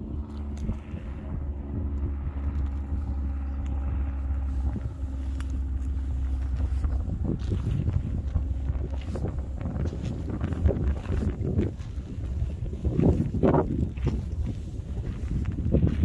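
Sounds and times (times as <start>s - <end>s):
steady low hum: 0.0s - 16.0s
wind rumbling on microphone: 0.0s - 16.0s.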